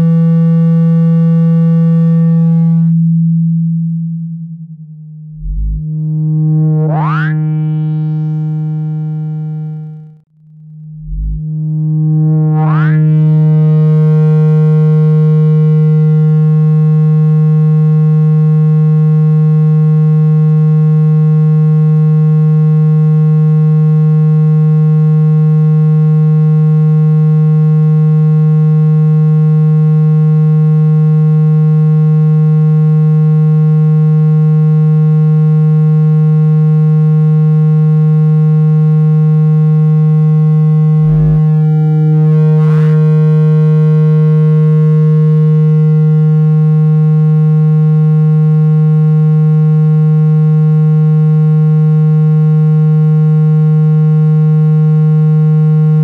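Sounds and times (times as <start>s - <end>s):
low buzzing synthesized tone: 0.0s - 56.0s.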